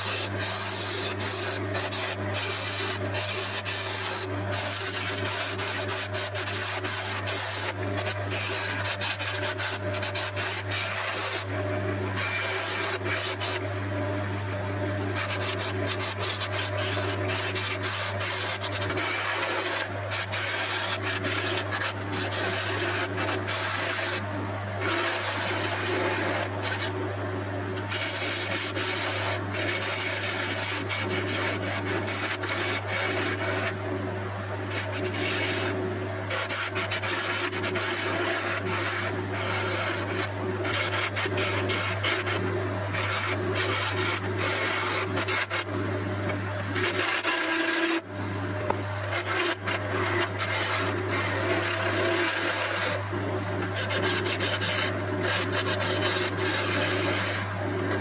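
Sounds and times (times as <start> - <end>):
turning tool scraping wood: 0.0 - 14.0, 14.9 - 27.0, 27.7 - 33.9, 34.7 - 58.0
lathe motor hum: 0.0 - 58.0.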